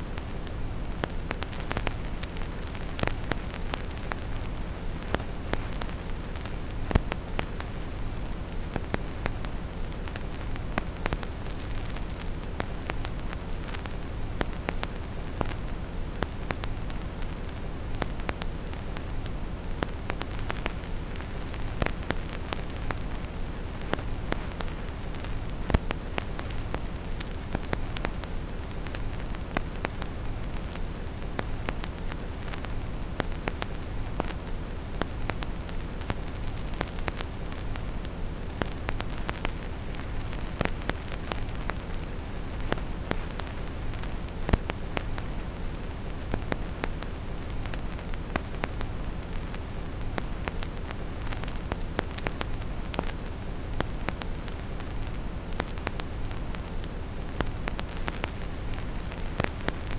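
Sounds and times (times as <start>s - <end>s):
vinyl record clicks and pops: 0.0s - 59.9s.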